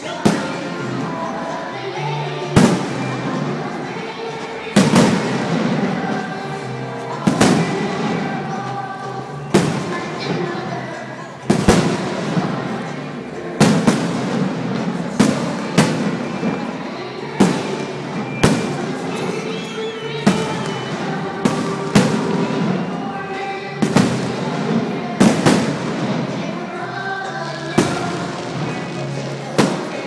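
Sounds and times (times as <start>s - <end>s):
fireworks bursting: 0.0s - 1.4s, 2.5s - 8.7s, 9.4s - 26.8s, 27.7s - 30.0s
music playing: 0.0s - 30.0s.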